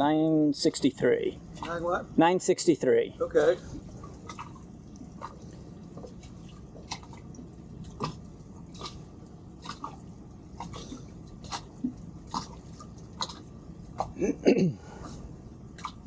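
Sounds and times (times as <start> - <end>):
waves lapping against boat hulls: 0.0 - 2.2, 3.2 - 14.2, 14.8 - 16.0.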